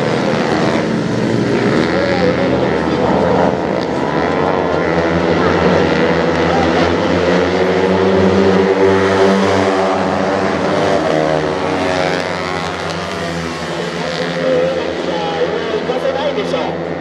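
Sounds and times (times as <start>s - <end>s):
two-stroke minibike engines racing: 0.0s - 17.0s.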